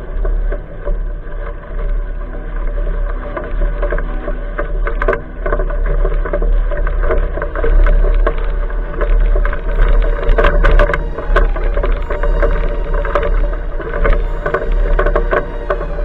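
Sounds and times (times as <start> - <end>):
bike rolling on rough trail: 0.0 - 16.0.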